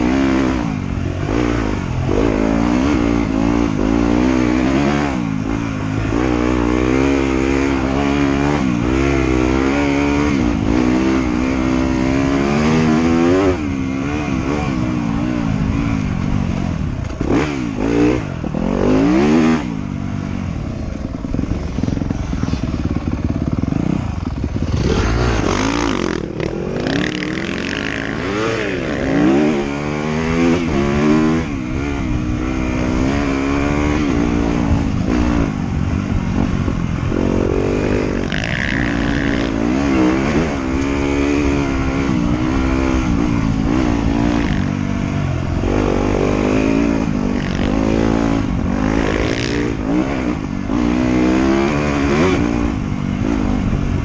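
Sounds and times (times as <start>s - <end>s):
motorcycle engine accelerating: 0.0s - 54.0s
steady rushing noise: 0.0s - 54.0s.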